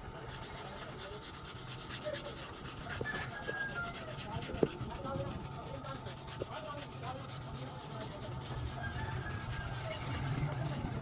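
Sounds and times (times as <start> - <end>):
stiff brush scrubbing metal fins: 0.0 - 11.0.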